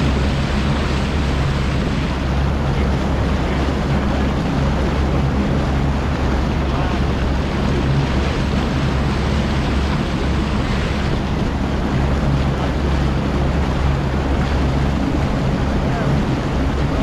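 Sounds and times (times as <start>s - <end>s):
outboard motor humming: 0.0s - 17.0s
wind on microphone: 0.0s - 17.0s.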